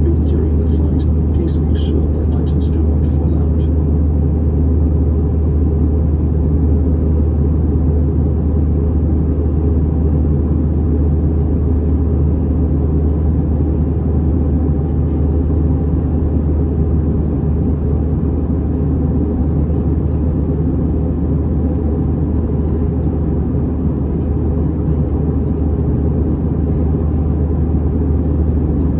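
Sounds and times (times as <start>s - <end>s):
jet engines rumbling in cabin: 0.0s - 28.9s.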